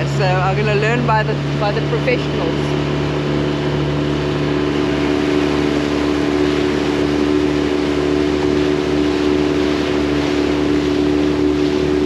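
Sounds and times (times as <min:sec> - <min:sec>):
outboard motor droning: 0:00.0 - 0:12.0
water rushing from hull: 0:00.0 - 0:12.0.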